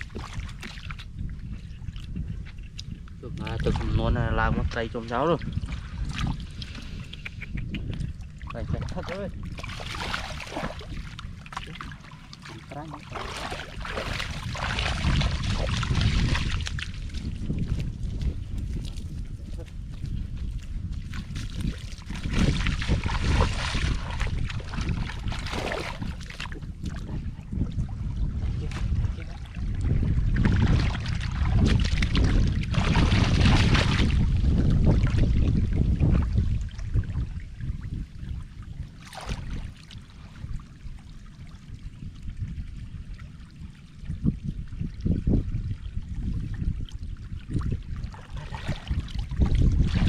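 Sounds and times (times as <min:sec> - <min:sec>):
water splashing and sloshing: 0:00.0 - 0:50.0
wind rumble on microphone: 0:00.0 - 0:50.0.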